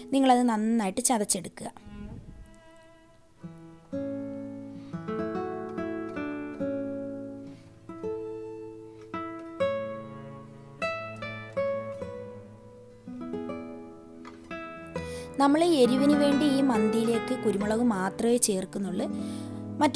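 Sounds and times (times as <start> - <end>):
plucked acoustic guitar melody: 2.6 - 19.9.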